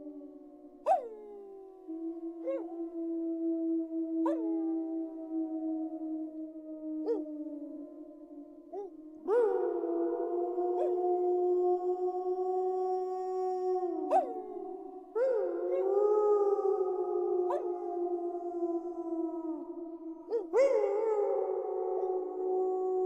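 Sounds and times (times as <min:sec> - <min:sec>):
wolves howling in chorus: 0:00.0 - 0:23.0.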